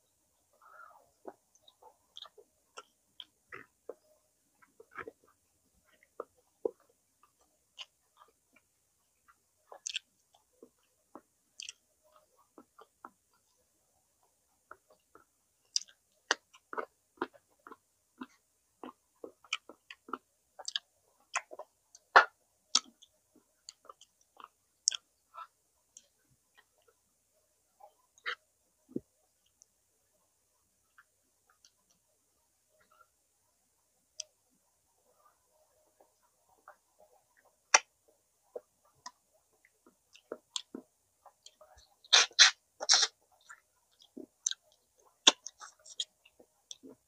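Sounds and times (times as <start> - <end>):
person chewing with wet clicks: 0.8 - 4.0, 4.6 - 13.5, 14.2 - 27.0, 27.9 - 29.7, 30.9 - 32.0, 36.1 - 37.9, 38.5 - 47.0.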